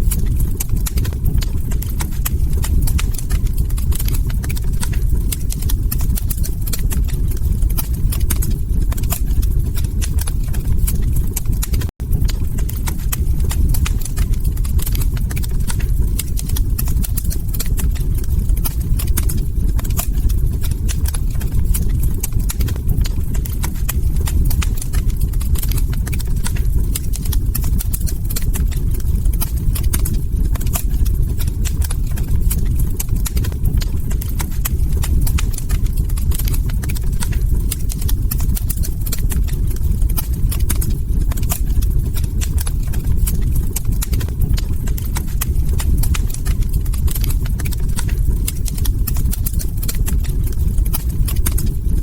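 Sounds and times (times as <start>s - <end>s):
log fire crackling: 0.0s - 52.0s.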